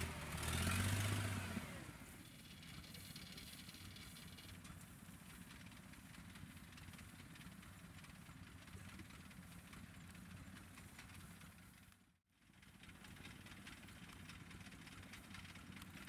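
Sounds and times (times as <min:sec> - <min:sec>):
engine idling hum: 0:00.0 - 0:16.0.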